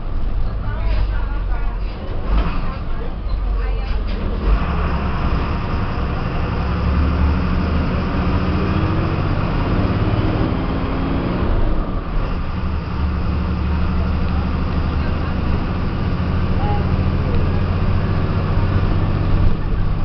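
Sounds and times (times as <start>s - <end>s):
bus diesel engine pulling: 0.0s - 20.0s.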